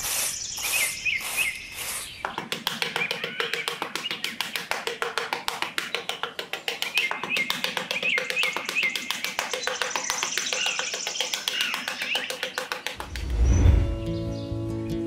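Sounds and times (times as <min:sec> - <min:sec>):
bird chirps: 0:00.0 - 0:04.7, 0:06.6 - 0:15.0.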